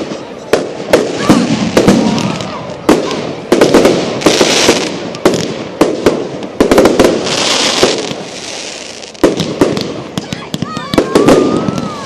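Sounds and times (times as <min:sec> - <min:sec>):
firework crackling fizz: 0:00.0 - 0:12.0.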